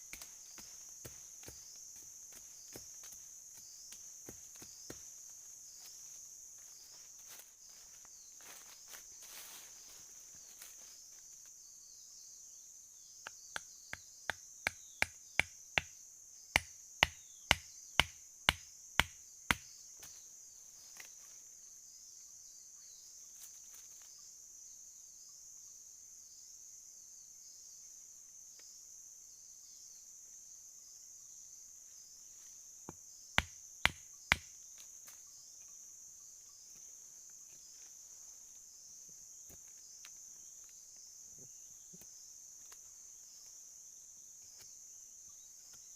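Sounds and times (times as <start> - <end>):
insect chirring: 0.0 - 45.9.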